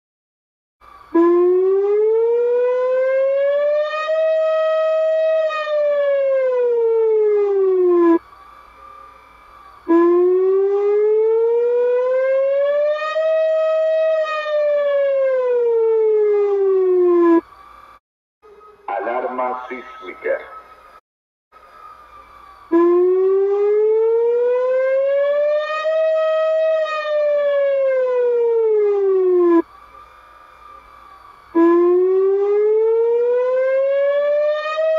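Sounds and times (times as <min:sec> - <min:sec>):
emergency siren wail: 0:00.8 - 0:17.8, 0:21.6 - 0:34.9.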